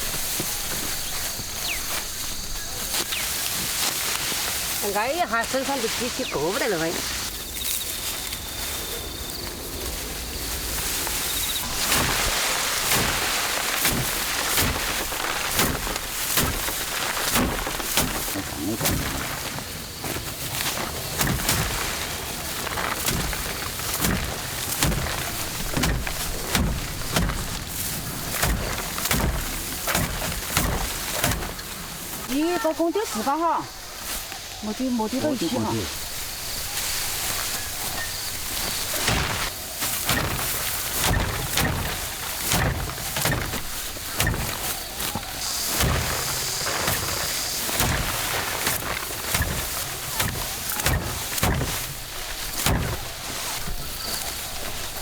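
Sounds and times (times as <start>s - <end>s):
dry rustling of rice stalks: 0.0s - 55.0s
thuds of rice harvesting: 0.0s - 55.0s.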